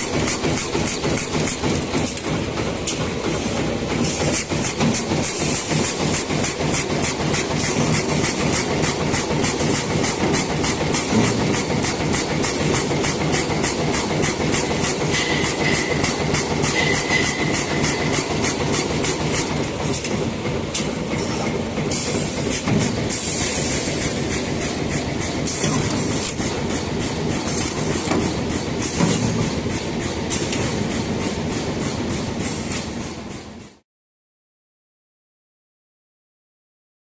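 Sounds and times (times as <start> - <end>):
machine clattering rapidly: 0.0 - 33.7.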